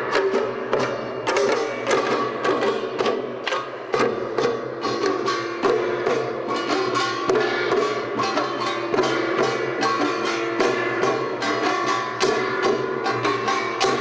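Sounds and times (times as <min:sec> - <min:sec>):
drums in busy rhythm: 0:00.0 - 0:14.0.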